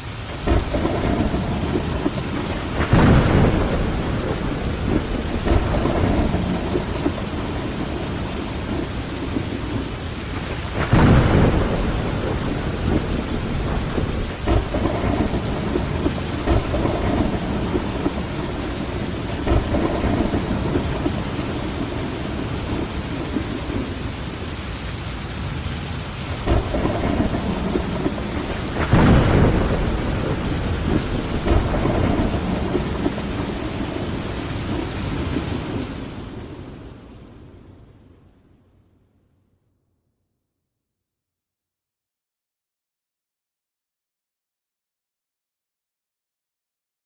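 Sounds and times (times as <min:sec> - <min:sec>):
rain pattering on window: 0:00.0 - 0:38.4
low rolling thunder: 0:00.2 - 0:38.2.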